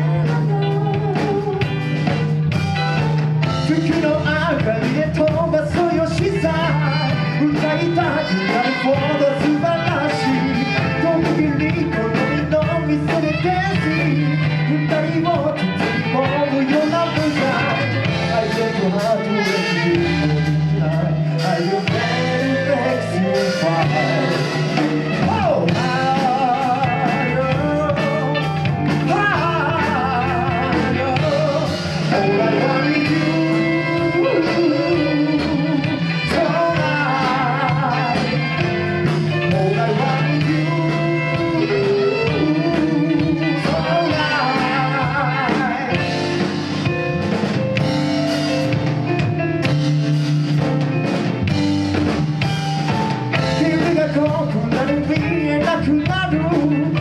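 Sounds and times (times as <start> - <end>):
live rock band playing: 0.0 - 57.0
vibrato lead melody: 0.0 - 57.0.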